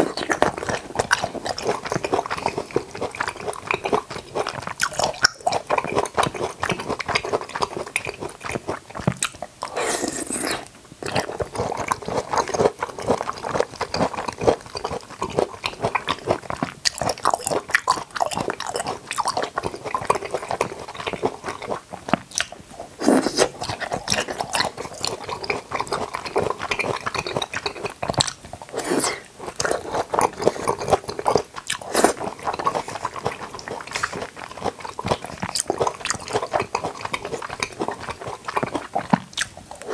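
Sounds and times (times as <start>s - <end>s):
crisp chewing of fruit: 0.0s - 39.9s.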